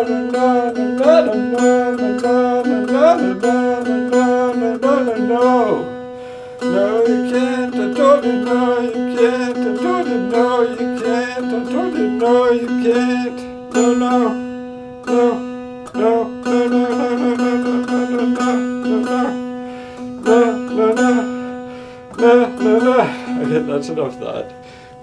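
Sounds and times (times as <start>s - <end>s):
diddley bow plucked drone: 0.0s - 25.0s.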